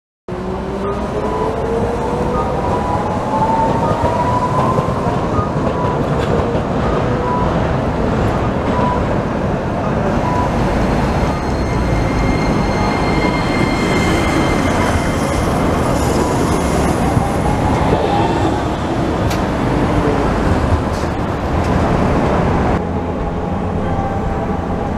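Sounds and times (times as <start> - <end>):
road and rail traffic rumble: 0.3 - 24.9
tram motor whine: 0.4 - 21.0.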